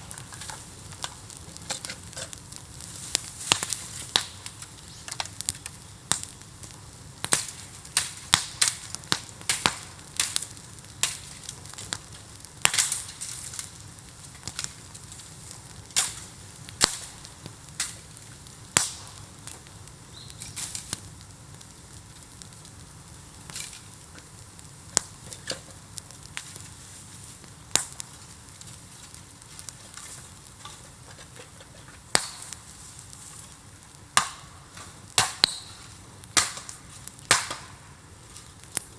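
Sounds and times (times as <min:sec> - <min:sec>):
bamboo bonfire hissing: 0:00.0 - 0:38.9
fire cracking and popping: 0:00.0 - 0:38.9.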